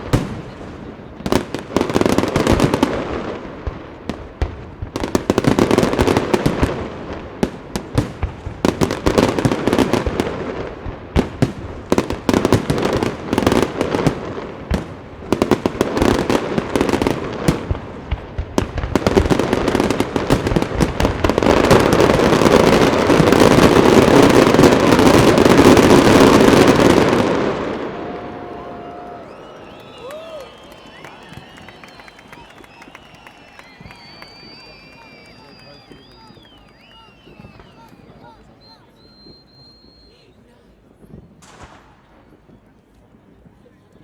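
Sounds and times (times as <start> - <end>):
fireworks bangs and crackle: 0.0 - 40.2, 40.8 - 43.7.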